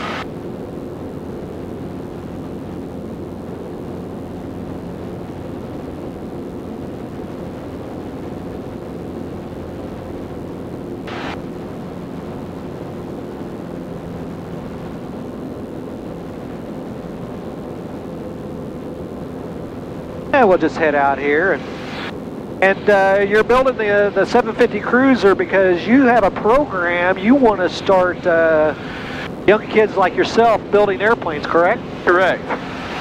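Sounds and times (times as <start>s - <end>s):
airplane engine droning: 0.0s - 33.0s.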